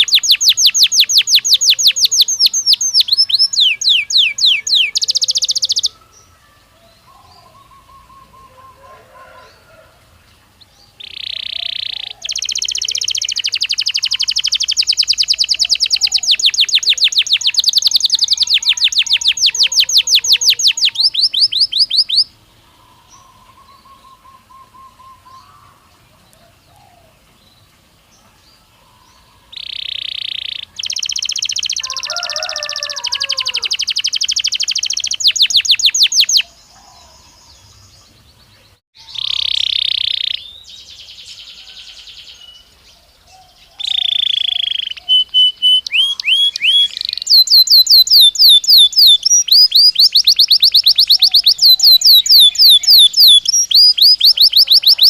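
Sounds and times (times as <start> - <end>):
faint bird chirps: 0.0 - 9.8, 10.5 - 55.0
canary singing trills: 0.0 - 27.7, 28.5 - 55.0.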